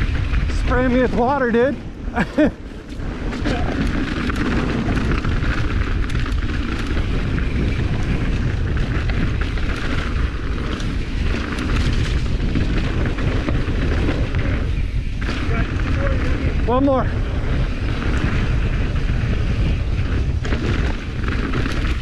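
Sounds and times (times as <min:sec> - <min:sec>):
bike rattling over rocks: 0:00.0 - 0:01.8, 0:02.4 - 0:22.0
wind buffeting microphone: 0:00.0 - 0:22.0.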